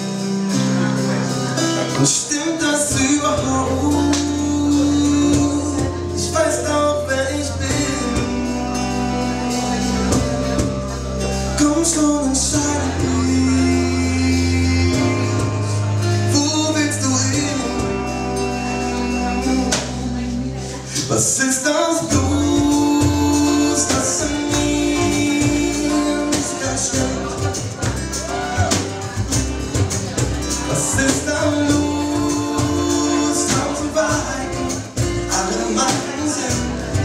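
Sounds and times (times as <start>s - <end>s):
live band playing: 0.0s - 37.0s.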